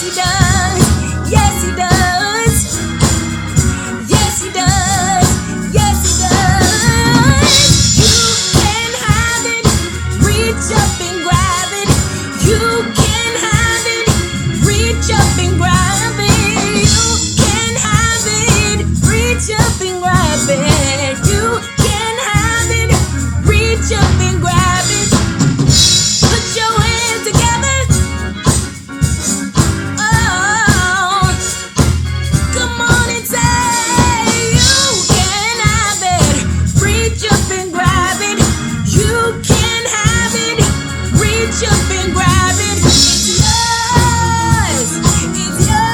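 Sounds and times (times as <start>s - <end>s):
drum kit beat: 0.0s - 45.9s
heavy bass line: 0.0s - 45.9s
worship music singing: 0.0s - 45.9s.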